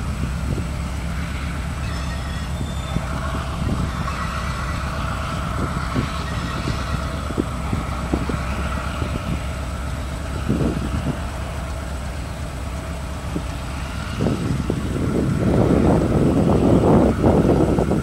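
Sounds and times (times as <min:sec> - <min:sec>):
locomotive engine running: 0:00.0 - 0:18.0.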